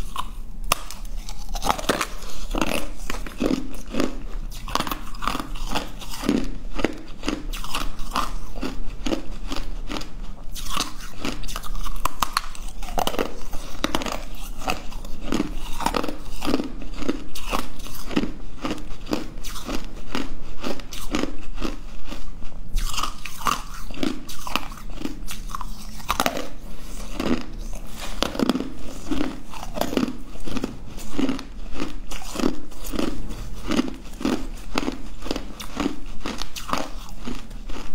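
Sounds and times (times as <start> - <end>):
ice crunching between teeth: 0.0 - 37.9.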